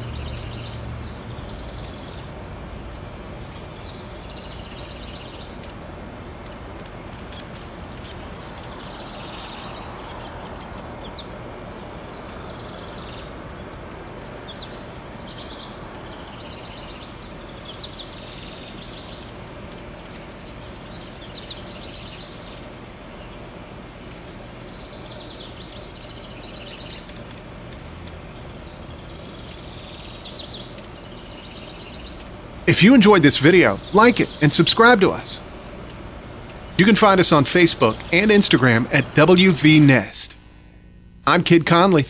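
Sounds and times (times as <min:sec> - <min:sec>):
outdoor hiss and rumble: 0:00.0 - 0:42.0
songbirds chirping: 0:03.4 - 0:11.4, 0:12.1 - 0:40.7.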